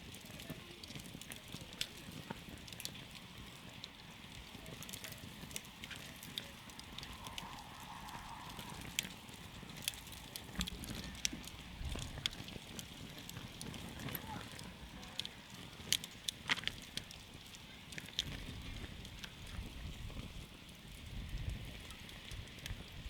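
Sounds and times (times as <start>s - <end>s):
campfire crackling and popping: 0.0s - 23.0s
fire hissing and rumbling: 0.0s - 23.0s.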